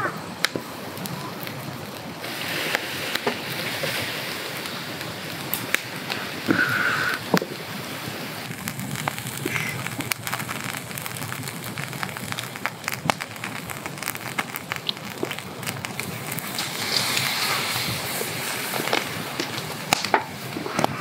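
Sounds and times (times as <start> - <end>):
campfire crackling and popping: 0.0 - 21.0
seafood sizzling on grill: 0.0 - 21.0.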